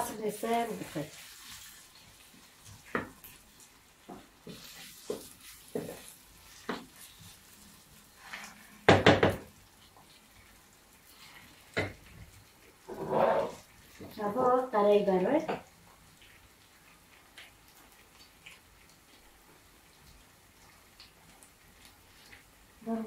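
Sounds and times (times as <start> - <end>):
wooden spoon stirring vegetables: 0.0 - 18.8.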